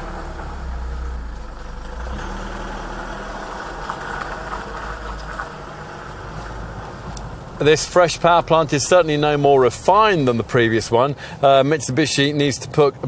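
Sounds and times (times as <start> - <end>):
diesel truck engine drone: 0.0 - 12.4
road noise: 0.0 - 13.0.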